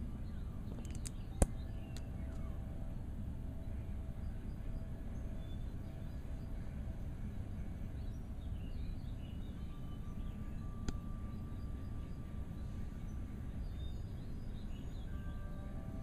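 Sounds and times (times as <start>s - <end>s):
faint bird chirps: 0.0s - 16.0s
low rumble of blizzard wind: 0.0s - 16.0s.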